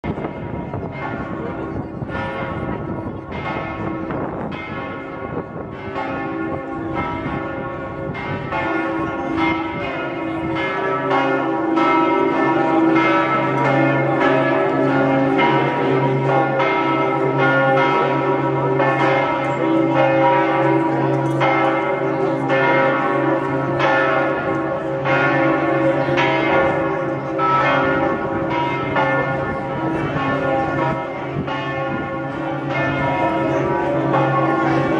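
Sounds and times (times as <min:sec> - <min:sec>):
church bells ringing: 0:00.0 - 0:34.9
deep low bell: 0:00.0 - 0:34.9.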